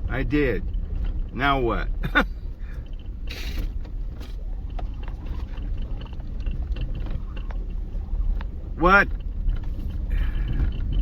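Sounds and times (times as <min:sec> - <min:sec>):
car driving on rough dirt road: 0:00.0 - 0:11.0
knocks and rattles: 0:00.3 - 0:11.0.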